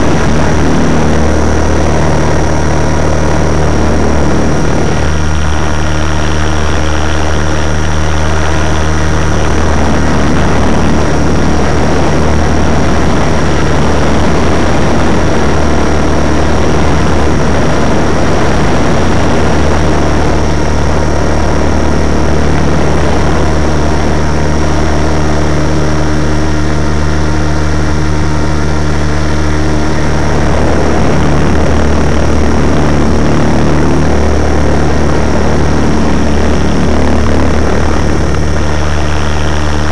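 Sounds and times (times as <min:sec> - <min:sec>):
model helicopter rotors droning: 0:00.0 - 0:39.9.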